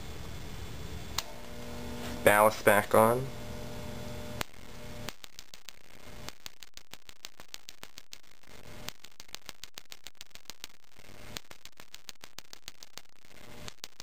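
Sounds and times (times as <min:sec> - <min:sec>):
igniter sparking clicks: 0:01.1 - 0:14.0.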